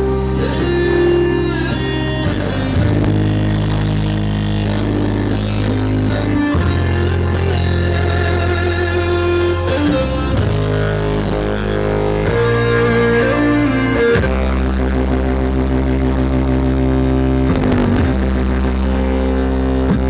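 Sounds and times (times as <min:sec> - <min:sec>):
guitar-like melody: 0:00.0 - 0:20.0
held bass notes: 0:00.0 - 0:20.0.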